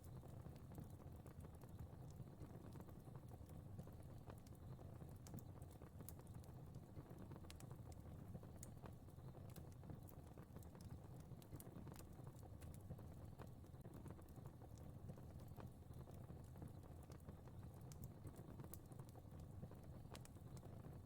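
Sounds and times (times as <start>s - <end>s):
fire crackling and popping: 0.1s - 21.0s.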